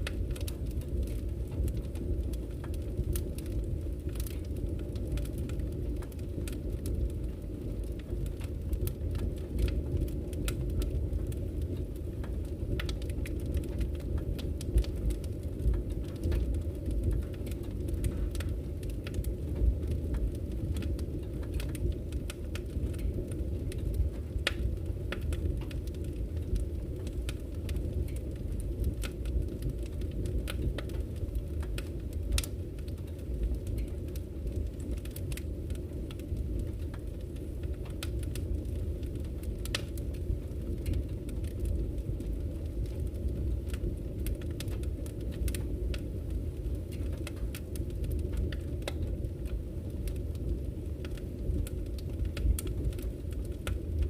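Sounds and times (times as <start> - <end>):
burning logs crackling: 0.0 - 54.0
rush of flames: 0.0 - 54.0.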